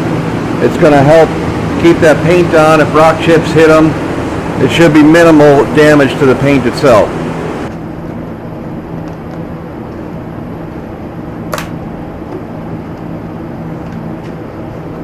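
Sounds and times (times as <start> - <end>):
ventilation fan running: 0.0 - 15.0.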